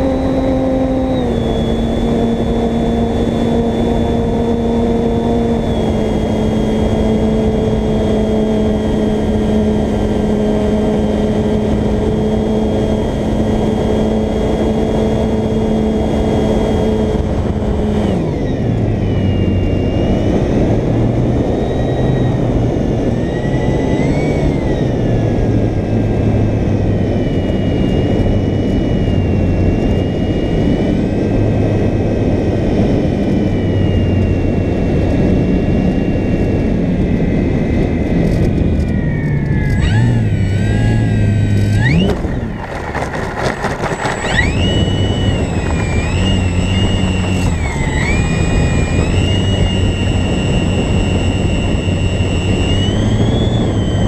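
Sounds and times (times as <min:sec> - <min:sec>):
electric motor and propeller whining: 0:00.0 - 0:54.0
wind rushing over camera: 0:00.0 - 0:54.0.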